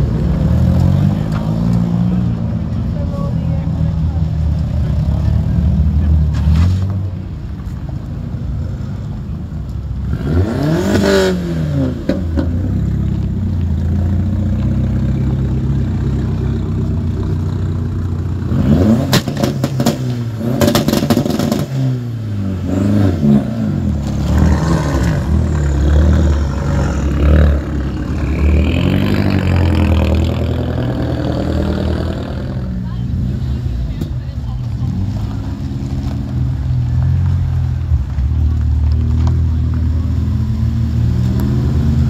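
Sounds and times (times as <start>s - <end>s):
car engines revving: 0.0s - 42.0s
cars driving on gravel: 0.0s - 42.0s.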